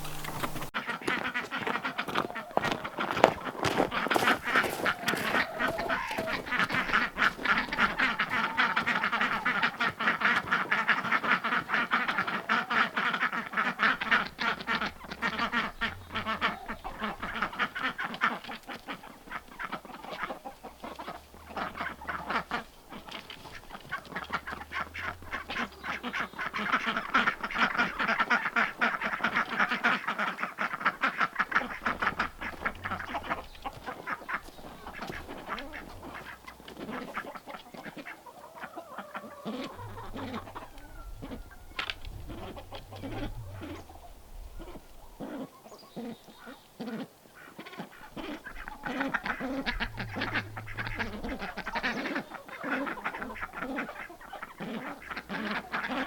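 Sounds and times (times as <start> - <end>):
ducks quacking: 0.0 - 56.0.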